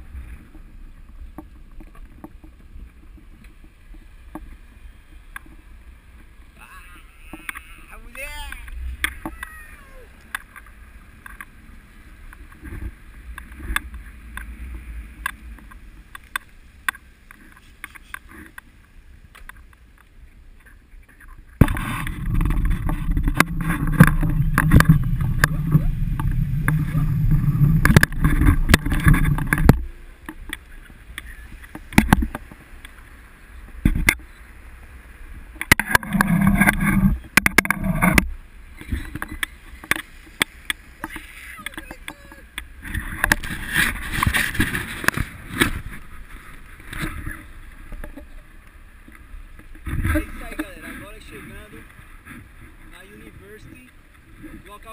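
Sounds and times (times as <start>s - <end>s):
wind rumble and buffeting: 0.0s - 54.9s.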